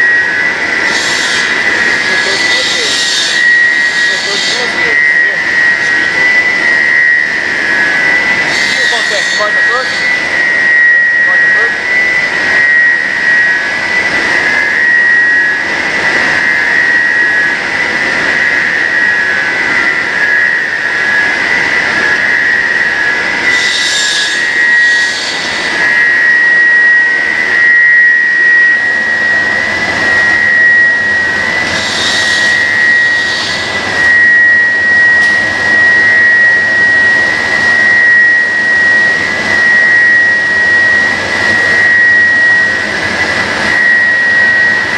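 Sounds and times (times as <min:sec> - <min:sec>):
cutting machine high-pitched whine: 0:00.0 - 0:44.9.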